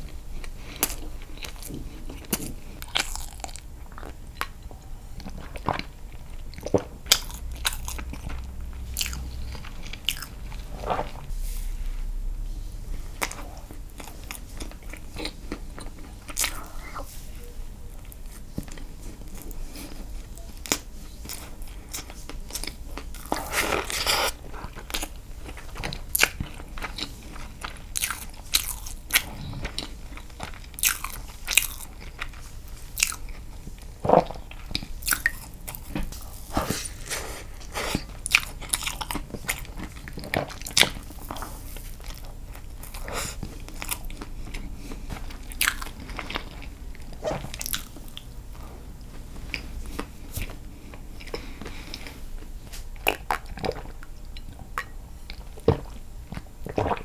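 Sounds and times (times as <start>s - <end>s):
person chewing with mouth clicks: 0.4s - 11.3s, 13.1s - 57.0s.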